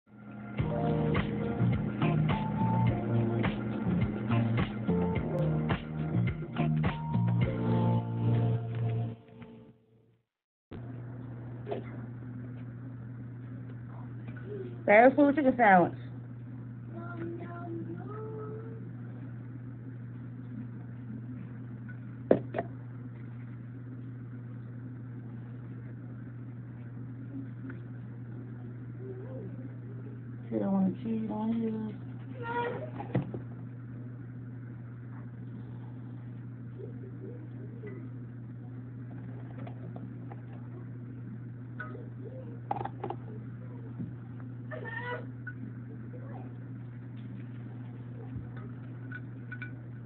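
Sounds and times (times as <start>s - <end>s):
steady low hum: 0.1s - 10.0s, 10.8s - 50.0s.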